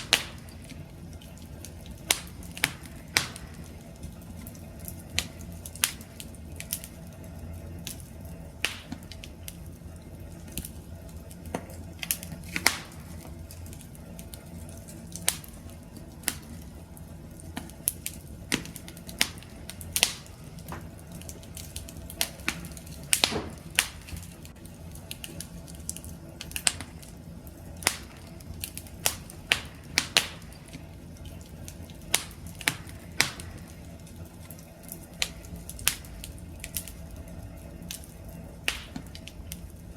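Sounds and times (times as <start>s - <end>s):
campfire crackling and popping: 0.0s - 39.9s
low rumble of burning: 0.0s - 39.9s.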